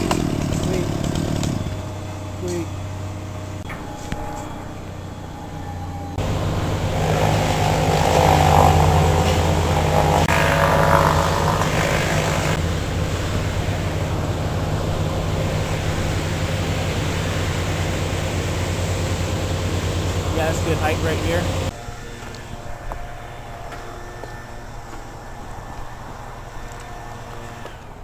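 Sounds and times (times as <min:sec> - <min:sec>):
heavy engine low drone: 0:00.0 - 0:28.0.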